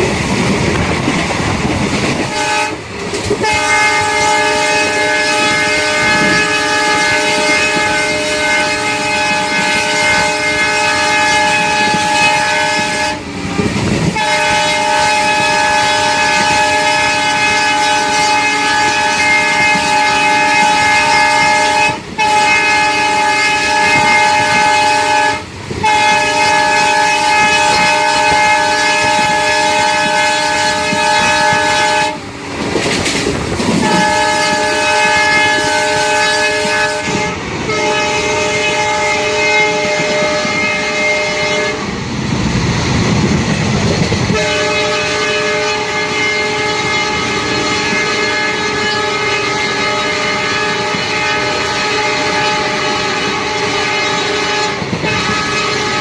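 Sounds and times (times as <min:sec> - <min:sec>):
moving train rumble: 0:00.0 - 0:56.0
train horn blasts: 0:02.1 - 0:32.4, 0:33.7 - 0:42.0, 0:44.2 - 0:56.0.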